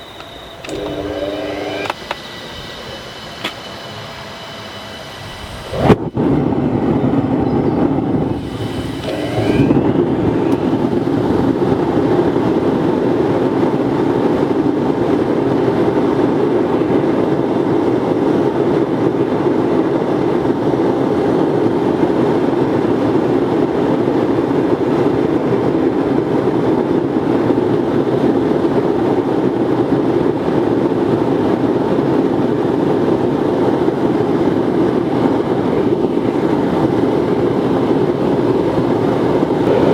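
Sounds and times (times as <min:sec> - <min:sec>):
oil burner blower and flame rushing: 0:00.0 - 0:39.9.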